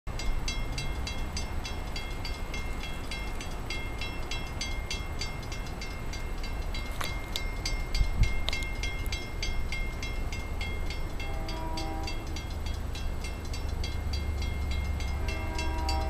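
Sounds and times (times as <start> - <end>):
crossing bell ringing: 0.1 - 16.0.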